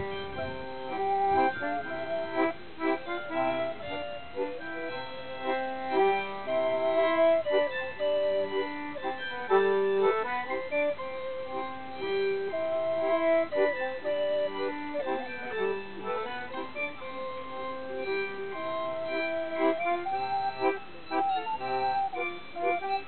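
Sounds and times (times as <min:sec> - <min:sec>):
accordion: 0:00.0 - 0:23.0
bowed string instrument: 0:00.0 - 0:23.0
wooden pipe: 0:00.0 - 0:23.0.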